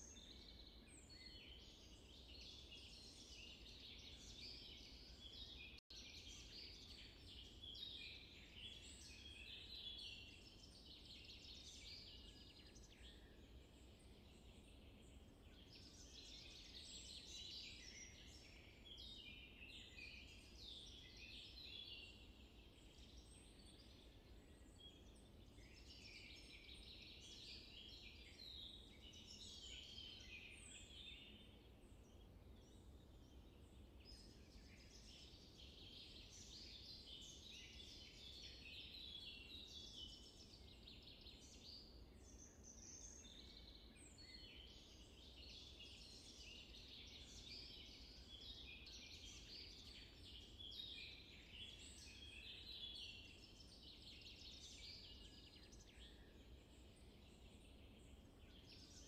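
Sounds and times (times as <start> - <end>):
small birds chirping and twittering: 0.0 - 59.0.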